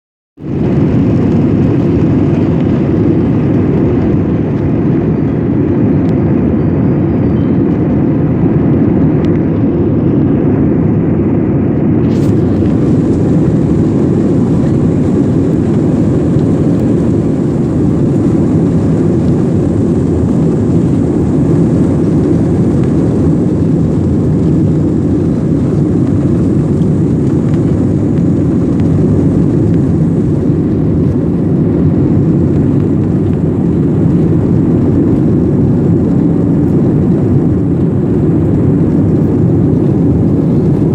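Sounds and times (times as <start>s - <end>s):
jet engines rumbling in cabin: 0.4s - 40.9s.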